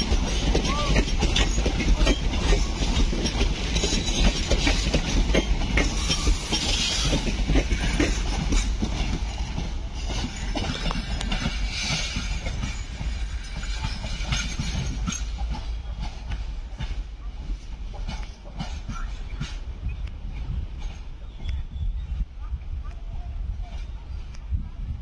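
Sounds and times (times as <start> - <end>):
train wheels clattering over joints: 0.0 - 22.0
train rumble: 0.0 - 25.0.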